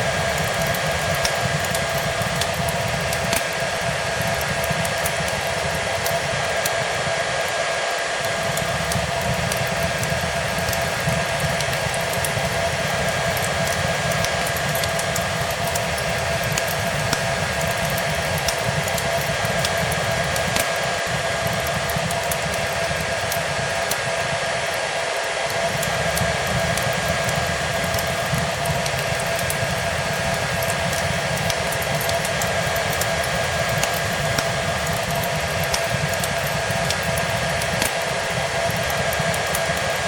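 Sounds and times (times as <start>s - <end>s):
fire crackles: 0.0s - 40.0s
hair dryer blowing: 0.0s - 40.0s.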